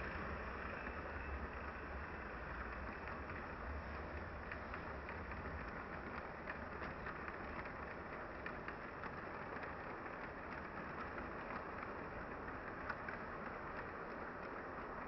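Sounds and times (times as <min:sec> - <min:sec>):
clicks over rail joints: 0:00.0 - 0:15.0
model train wheels rolling: 0:00.0 - 0:15.0.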